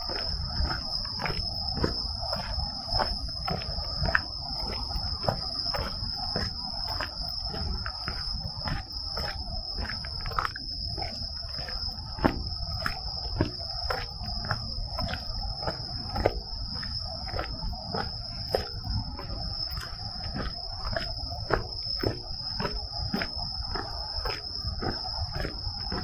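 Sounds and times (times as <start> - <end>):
footsteps on a trail: 0.0 - 26.0
night insects trilling: 0.0 - 26.0.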